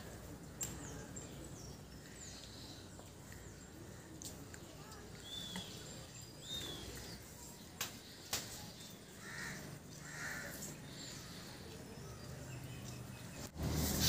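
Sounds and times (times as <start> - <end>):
faint birds calling: 0.0 - 14.0.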